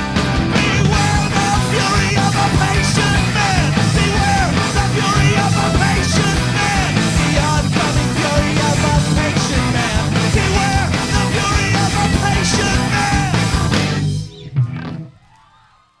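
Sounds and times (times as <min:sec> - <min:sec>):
drum kit: 0:00.0 - 0:15.1
bass guitar: 0:00.0 - 0:15.2
electric guitar: 0:00.0 - 0:15.2
man singing lead vocal: 0:00.5 - 0:13.9.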